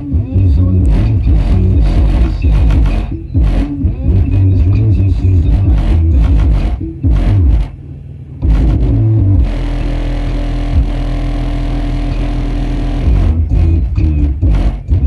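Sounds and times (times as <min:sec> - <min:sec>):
loud bass-heavy music: 0:00.0 - 0:15.0.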